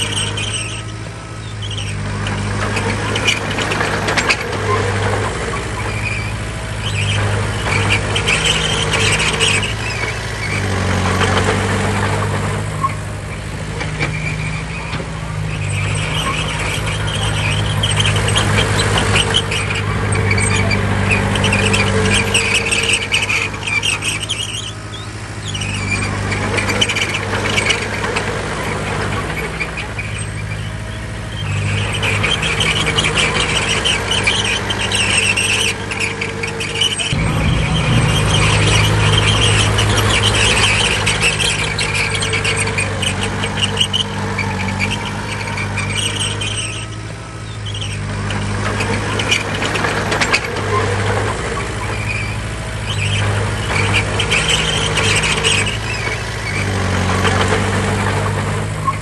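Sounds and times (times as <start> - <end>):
bulldozer diesel engine running: 0.0 - 59.0
steel tracks squealing and clanking: 0.0 - 59.0.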